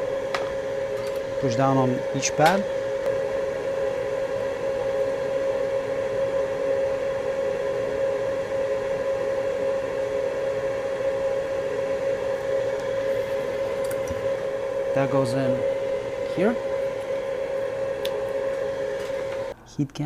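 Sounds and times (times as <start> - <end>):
electric fan whirring: 0.0 - 20.0.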